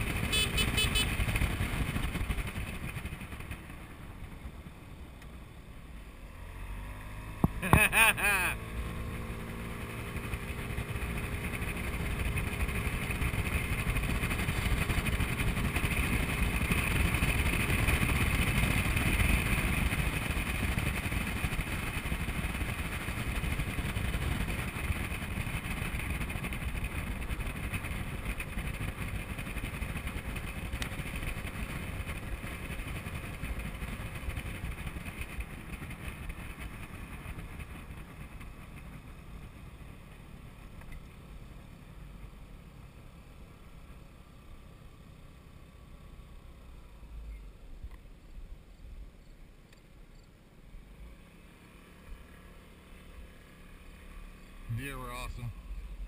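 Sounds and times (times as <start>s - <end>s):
scooter engine running: 0.0s - 46.4s
wind and road noise: 0.0s - 56.0s.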